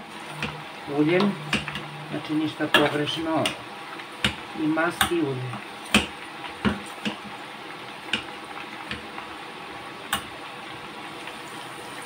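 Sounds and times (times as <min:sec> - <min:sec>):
leeks sizzling in oil: 0:00.0 - 0:12.0.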